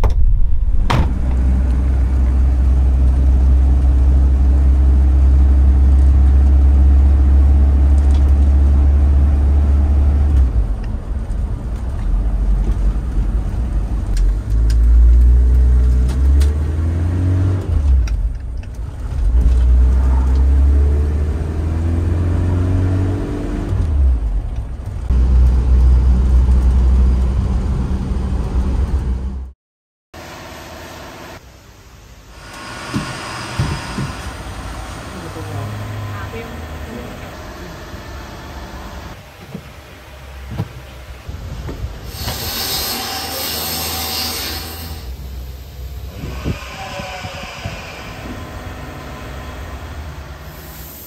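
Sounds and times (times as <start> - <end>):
car engine drone: 0.0 - 29.5, 30.2 - 42.3, 44.8 - 51.0
road noise: 0.0 - 29.5, 30.2 - 51.0.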